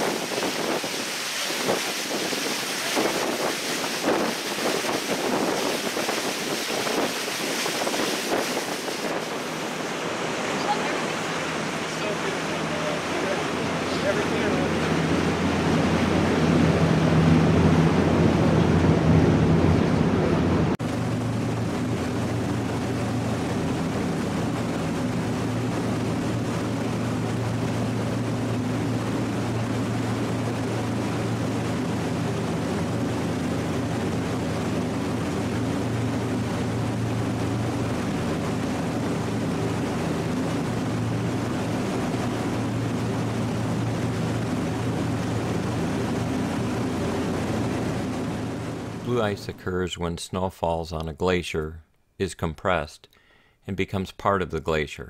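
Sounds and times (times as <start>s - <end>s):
boat engine drone: 0.0s - 49.8s
water rushing along hull: 0.0s - 49.8s.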